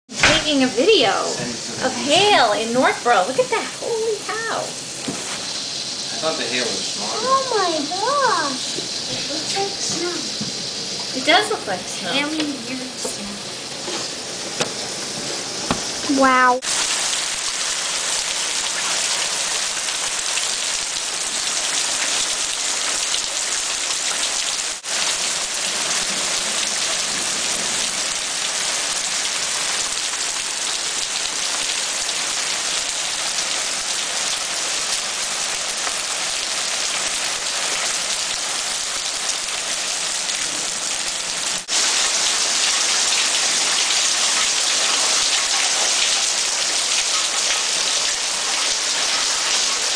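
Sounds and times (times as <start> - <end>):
hail hitting ground: 0.1 - 49.9.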